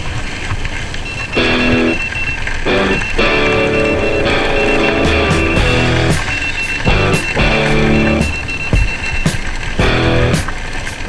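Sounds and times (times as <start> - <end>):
guitar chords: 1.4 - 10.6.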